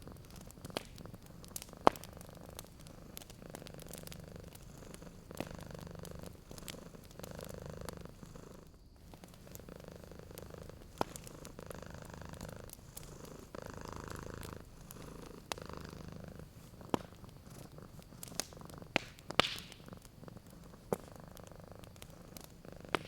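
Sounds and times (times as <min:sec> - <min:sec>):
cat purring: 0:00.0 - 0:23.0
fireplace fire crackling: 0:00.0 - 0:23.0.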